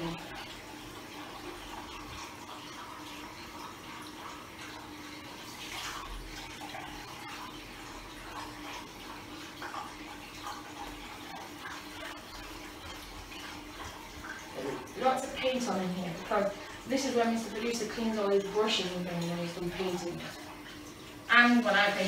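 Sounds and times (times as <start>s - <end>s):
cloth scrubbing a basin: 0.0s - 22.0s
faint steady hum: 0.0s - 22.0s.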